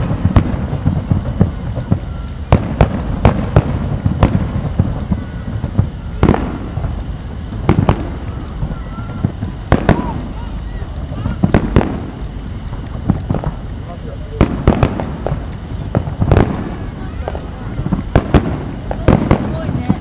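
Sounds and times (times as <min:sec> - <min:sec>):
firework shells bursting: 0:00.0 - 0:20.0
low rumble: 0:00.0 - 0:20.0.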